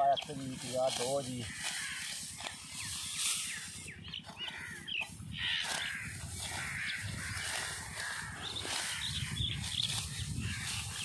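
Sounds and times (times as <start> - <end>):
birds cawing: 0.0 - 11.0
birds chirping: 0.0 - 11.0
dry stalks rustling and crunching: 0.0 - 11.0.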